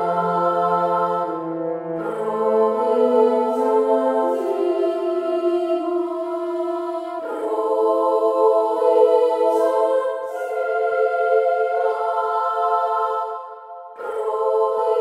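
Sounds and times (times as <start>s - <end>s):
slow music of held chords: 0.0s - 15.0s.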